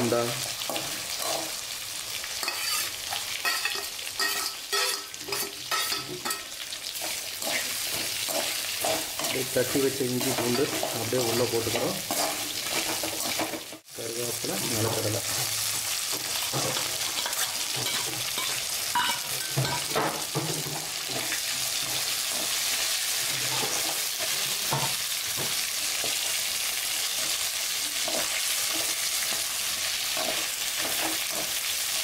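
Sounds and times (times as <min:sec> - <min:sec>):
food sizzling in oil: 0:00.0 - 0:32.0
spatula scraping pan: 0:00.4 - 0:13.8, 0:14.8 - 0:32.0.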